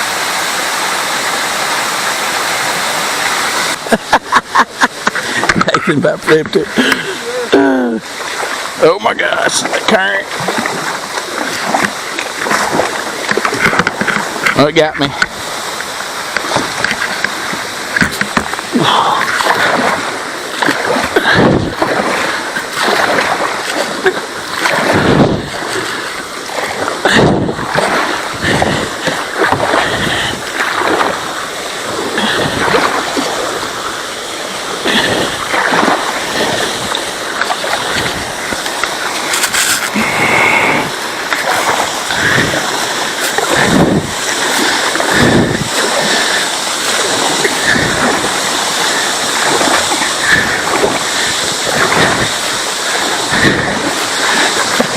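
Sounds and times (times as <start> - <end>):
paddle strokes splashing: 0.0 - 54.9
rushing river water: 0.0 - 54.9.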